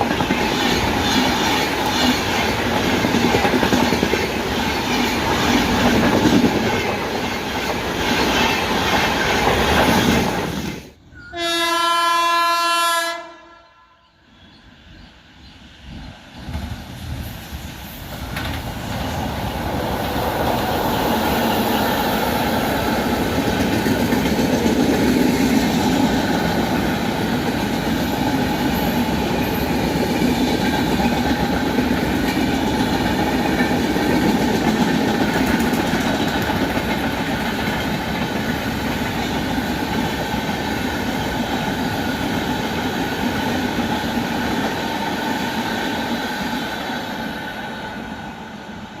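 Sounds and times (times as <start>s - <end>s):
train wheels rumbling on rails: 0.0s - 11.0s, 14.4s - 49.0s.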